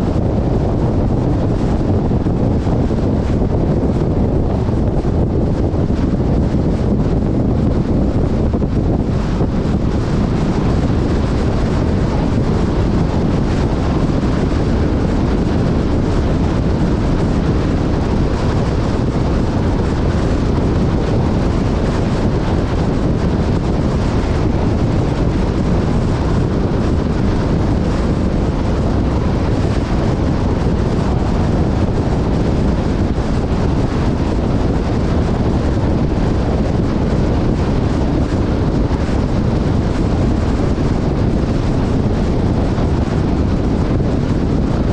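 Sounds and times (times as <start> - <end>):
vehicle low drone: 0.0 - 44.9
wind buffeting microphone: 0.0 - 44.9.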